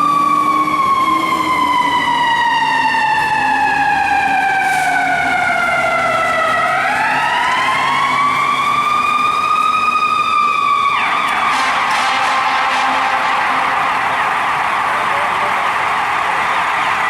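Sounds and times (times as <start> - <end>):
fire engine siren wailing: 0.0 - 17.0
truck engine running: 0.8 - 17.0.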